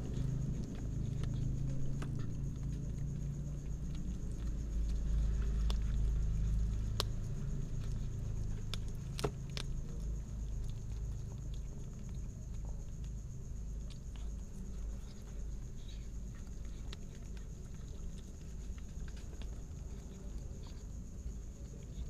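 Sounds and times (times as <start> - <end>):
cats chewing and licking: 0.0 - 22.0.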